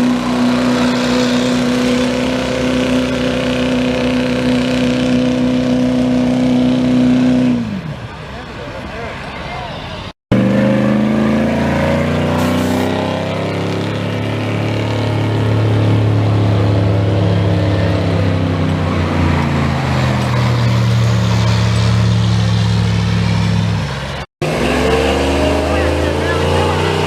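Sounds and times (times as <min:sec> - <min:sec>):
truck engine at high revs: 0:00.0 - 0:09.4, 0:10.0 - 0:27.0.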